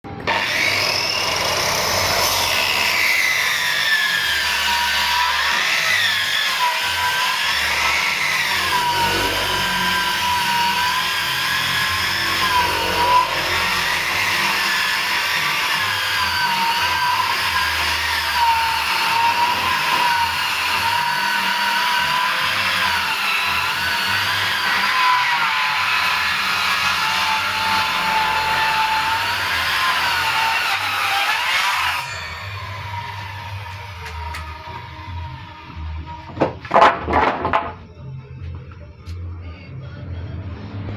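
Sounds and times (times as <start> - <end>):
power saw ripping wood: 0.2 - 35.0, 36.1 - 37.8.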